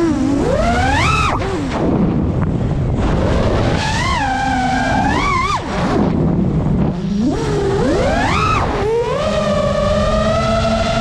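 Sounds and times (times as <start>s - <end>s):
drone motors whining: 0.0s - 11.0s
low wind rumble: 0.0s - 11.0s.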